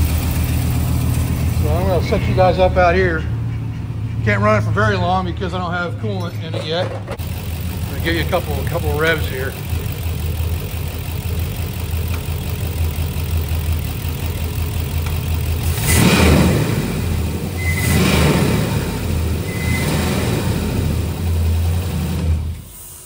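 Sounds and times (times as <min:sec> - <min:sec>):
truck engine idling and revving: 0:00.0 - 0:23.0.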